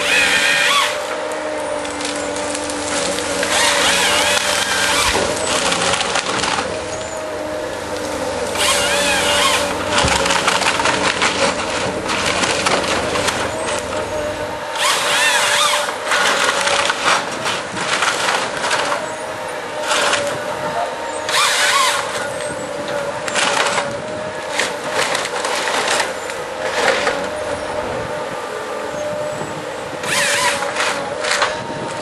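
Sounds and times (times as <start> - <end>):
wood splintering: 0.0 - 28.4, 29.1 - 32.0
harvester engine hum: 0.0 - 32.0
saw cutting through trunk: 0.0 - 32.0.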